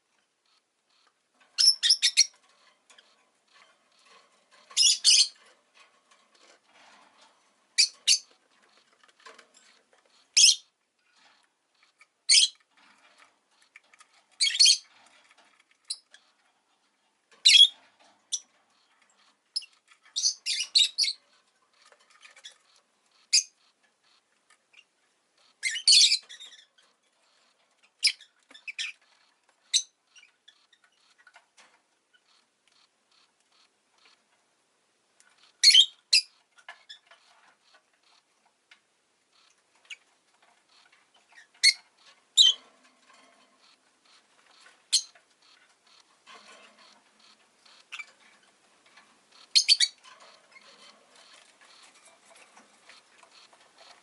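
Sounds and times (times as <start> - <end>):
lovebird chirping and squawking: 1.0 - 5.5, 7.8 - 16.4, 17.4 - 31.4, 35.3 - 38.2, 39.3 - 54.0.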